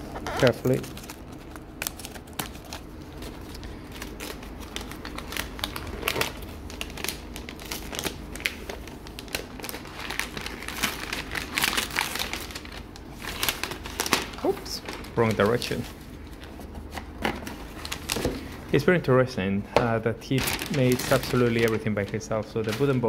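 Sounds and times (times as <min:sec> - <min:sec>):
paper wrapping crinkling: 0:00.0 - 0:18.8, 0:20.2 - 0:23.0.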